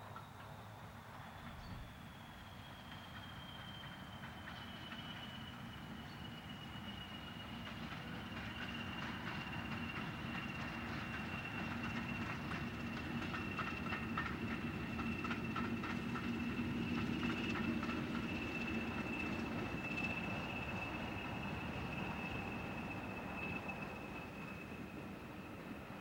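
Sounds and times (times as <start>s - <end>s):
diesel locomotive passing: 0.0s - 26.0s.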